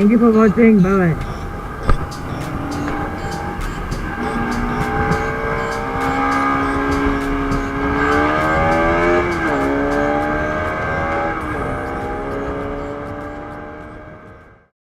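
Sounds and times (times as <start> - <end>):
motorcycle engine accelerating: 0.0 - 14.7
wind and road noise: 0.0 - 14.7.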